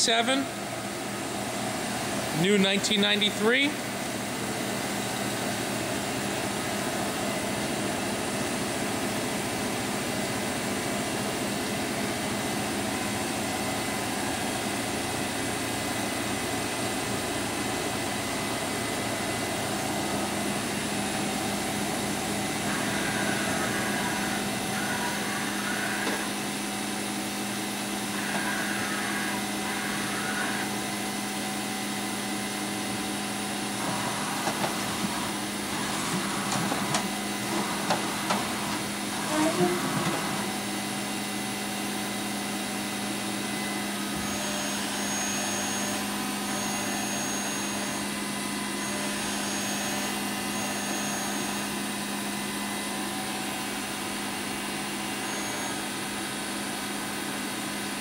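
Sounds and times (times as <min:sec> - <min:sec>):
higher machine whirring: 0:00.0 - 0:58.0
machine humming: 0:00.0 - 0:58.0.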